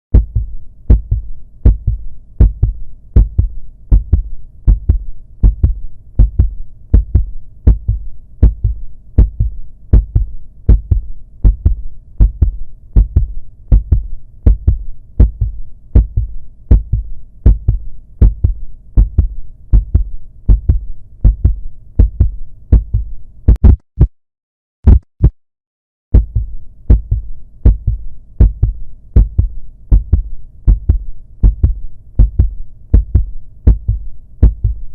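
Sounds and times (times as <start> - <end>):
heartbeat thumps: 0.1 - 24.1, 24.9 - 25.4, 26.1 - 34.9.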